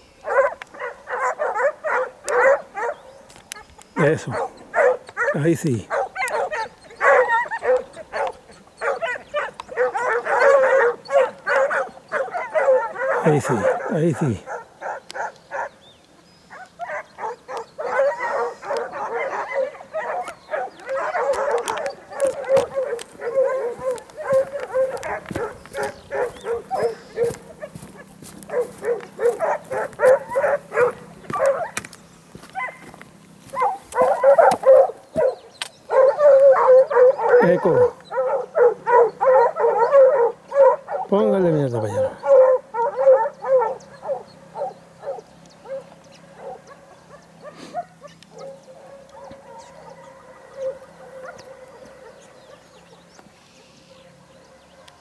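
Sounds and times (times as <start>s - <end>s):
hounds baying and yelping: 0.0s - 55.0s.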